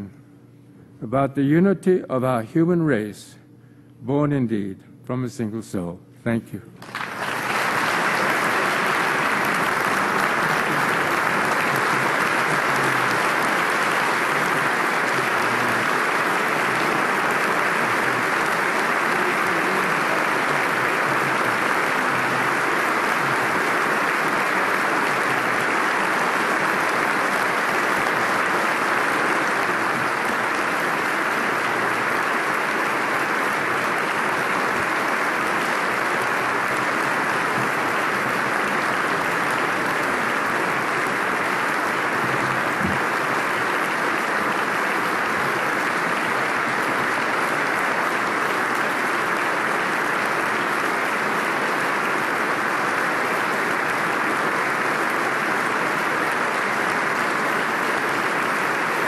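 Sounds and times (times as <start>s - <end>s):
audience applauding: 6.8s - 59.0s.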